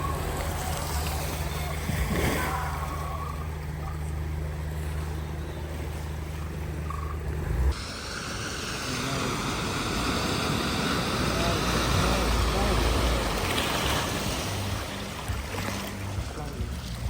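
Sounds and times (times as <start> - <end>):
vehicle engine humming: 0.0 - 17.0
water rushing: 0.0 - 17.0.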